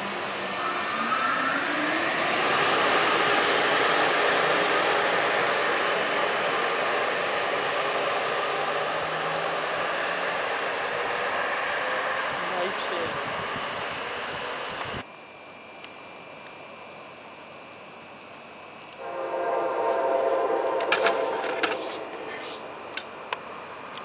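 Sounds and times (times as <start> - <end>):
train traction motors whining: 0.0 - 15.0, 18.2 - 24.0
train blower and rolling noise: 0.0 - 15.1, 18.8 - 24.0.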